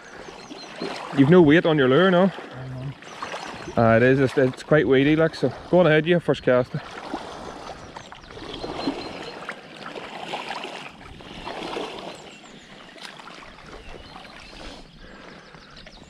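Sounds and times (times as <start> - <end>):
water sloshing around wading person: 0.0 - 16.0.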